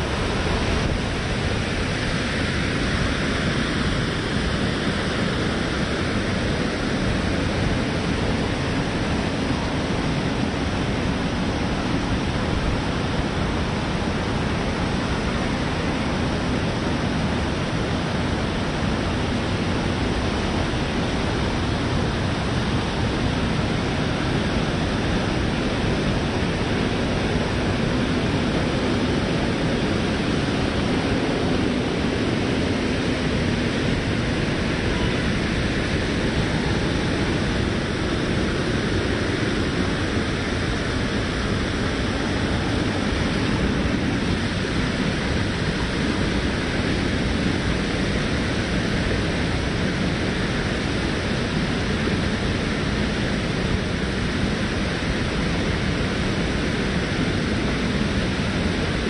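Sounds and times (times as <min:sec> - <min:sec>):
fast-flowing stream rushing: 0:00.0 - 0:59.0.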